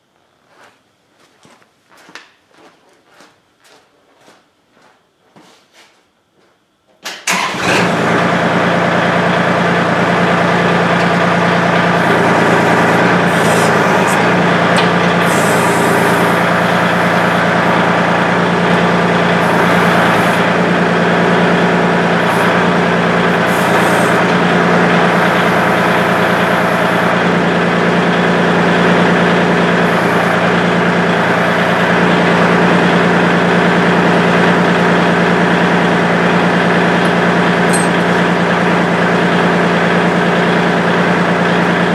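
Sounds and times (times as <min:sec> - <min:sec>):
tractor diesel engine running: 0:07.3 - 0:41.9.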